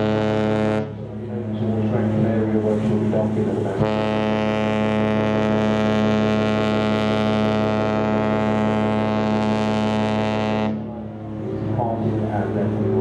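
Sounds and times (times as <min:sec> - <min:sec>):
ship horn low blast: 0:00.0 - 0:13.0.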